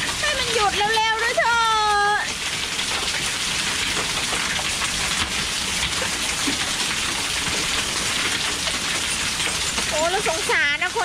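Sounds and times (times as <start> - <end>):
hail ticking: 0.0 - 11.0
heavy rain on pavement: 0.0 - 11.0.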